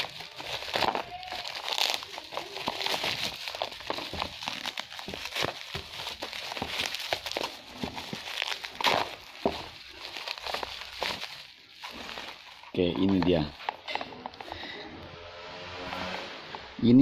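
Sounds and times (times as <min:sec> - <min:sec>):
bubble wrap crinkling: 0:00.0 - 0:14.6.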